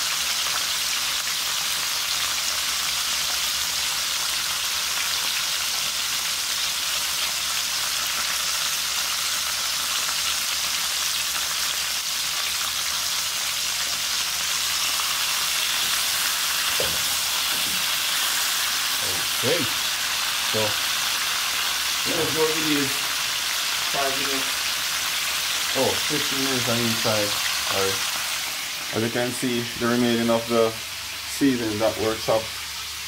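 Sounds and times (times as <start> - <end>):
chicken frying in oil: 0.0 - 33.0.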